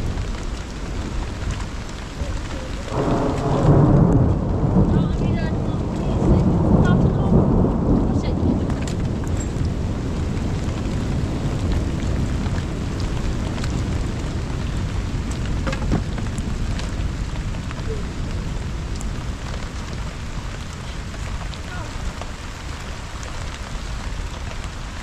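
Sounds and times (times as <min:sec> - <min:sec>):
deep rumble: 0:00.0 - 0:25.0
heavy rain: 0:00.0 - 0:25.0
sharp taps of raindrops: 0:00.0 - 0:25.0.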